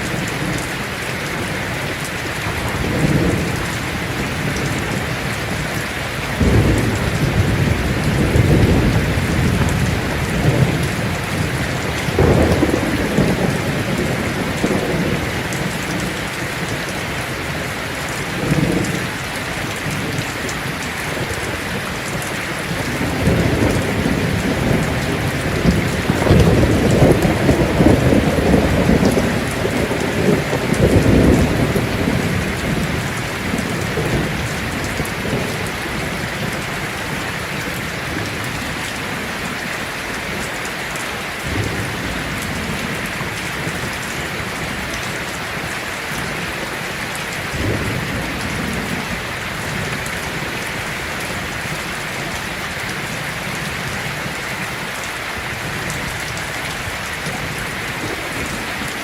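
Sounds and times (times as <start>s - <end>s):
thunder rumbling: 0.0s - 39.8s, 41.4s - 54.7s
heavy rain on a tin roof: 0.0s - 59.0s.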